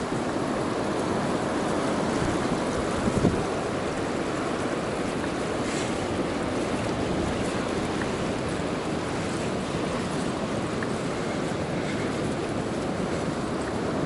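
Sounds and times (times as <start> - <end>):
ocean surf breaking: 0.0 - 14.0
wind on microphone: 0.0 - 14.0.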